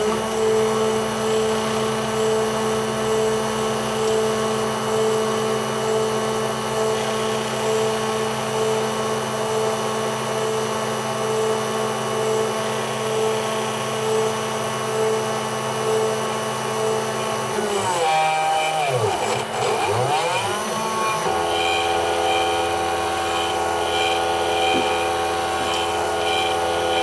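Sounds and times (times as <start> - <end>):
spindle motor humming: 0.0 - 27.0.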